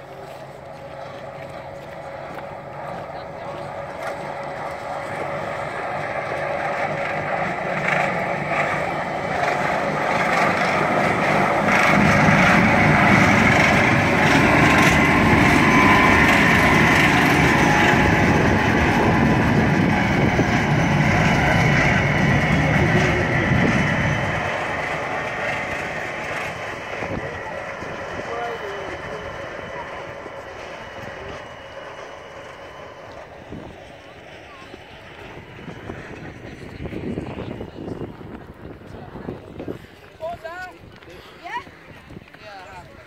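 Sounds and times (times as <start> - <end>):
diesel locomotive passing: 0.0 - 43.0.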